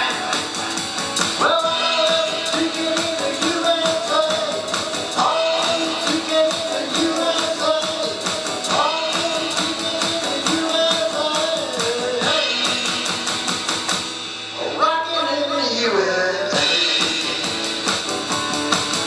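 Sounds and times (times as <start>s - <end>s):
electric drum kit beat: 0.0s - 14.6s, 16.5s - 19.0s
electric guitar: 0.0s - 14.8s, 15.6s - 19.0s.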